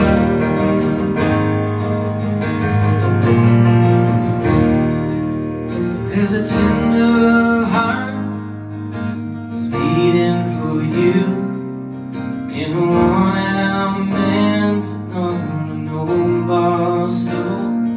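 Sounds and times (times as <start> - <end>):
acoustic guitars strummed: 0.0 - 17.9
keyboard chords: 0.0 - 17.9.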